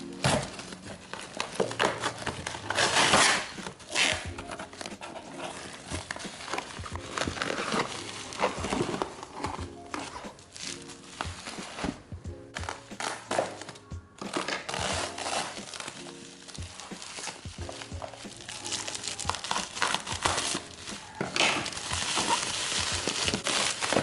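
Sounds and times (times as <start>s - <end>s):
packaging rustling and crinkling: 0.0s - 24.0s
soft background music: 0.0s - 24.0s.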